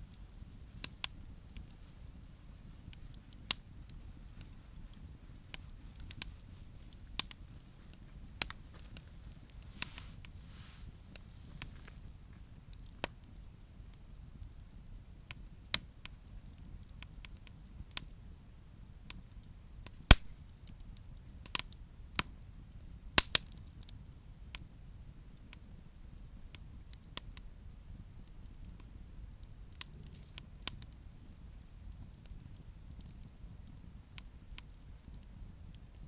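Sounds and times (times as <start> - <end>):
campfire crackling and popping: 0.0 - 36.0
faint low rumble: 0.0 - 36.0.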